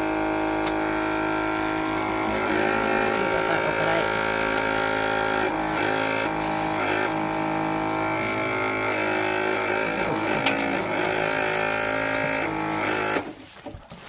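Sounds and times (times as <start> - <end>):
vacuum sealer pump humming: 0.0 - 13.8.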